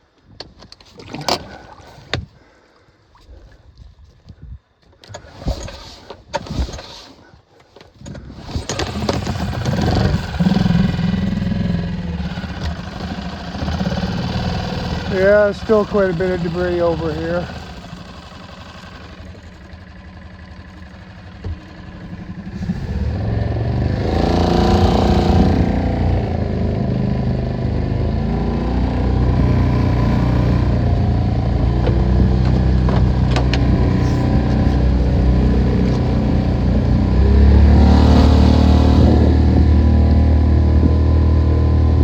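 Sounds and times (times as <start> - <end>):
outboard motor running: 8.2 - 42.0.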